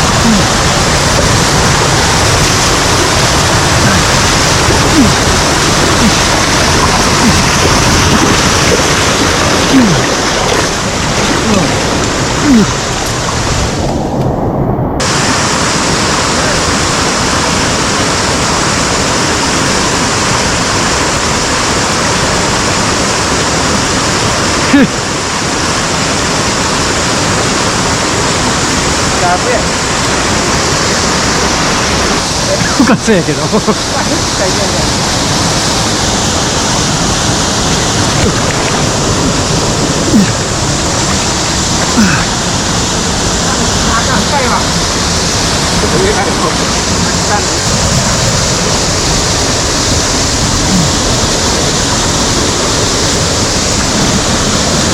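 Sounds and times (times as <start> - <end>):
stream rushing over a cascade: 0.0 - 54.9.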